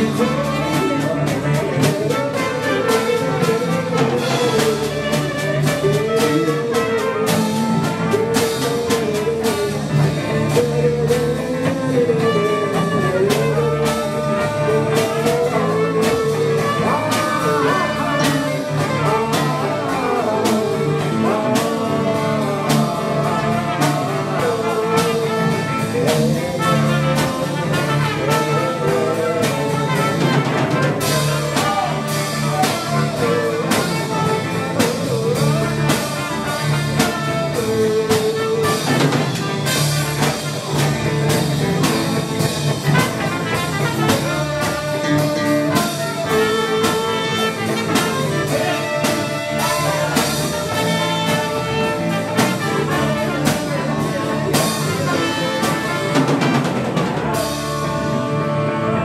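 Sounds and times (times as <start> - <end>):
alto saxophone: 0.0 - 59.0
cymbals: 0.0 - 59.0
drum kit: 0.0 - 59.0
trumpets: 0.0 - 59.0.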